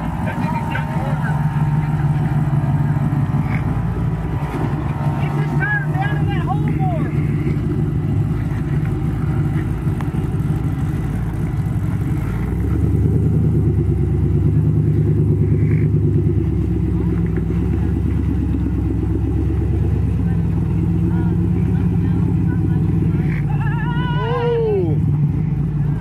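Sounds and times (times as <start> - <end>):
engine running under load: 0.0 - 26.0.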